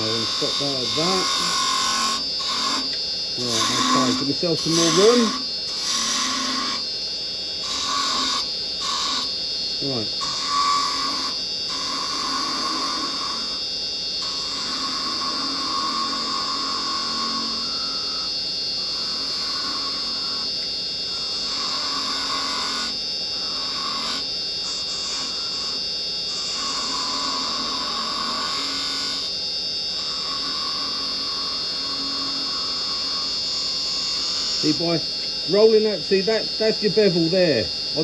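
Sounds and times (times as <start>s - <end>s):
chisel cutting spinning wood: 0.0s - 38.0s
wood lathe whining: 0.0s - 38.0s.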